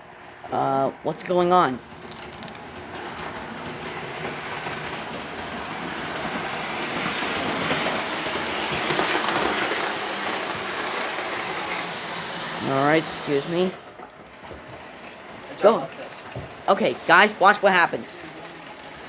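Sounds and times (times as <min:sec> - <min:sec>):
model train rattling on track: 0:01.8 - 0:19.0.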